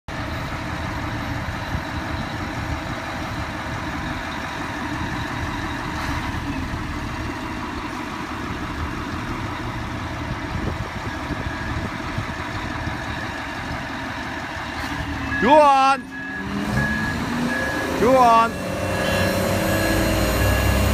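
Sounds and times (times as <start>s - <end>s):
heavy diesel engines running: 0.1s - 20.9s.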